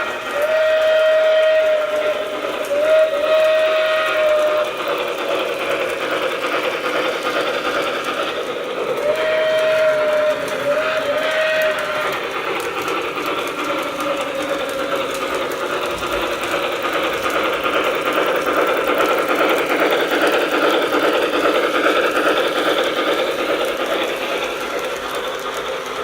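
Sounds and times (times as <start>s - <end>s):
wheels rattling over rails: 0.0s - 26.0s.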